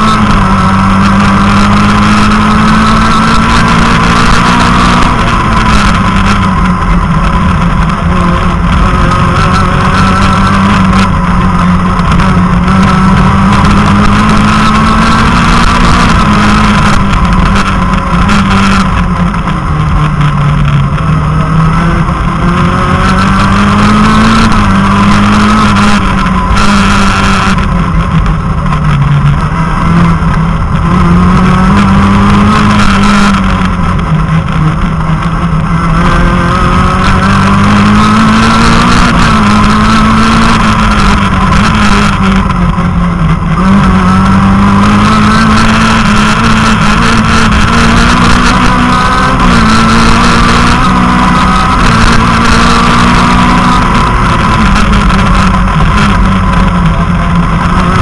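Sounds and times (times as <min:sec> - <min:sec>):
rally car engine from inside cabin: 0:00.0 - 0:58.0.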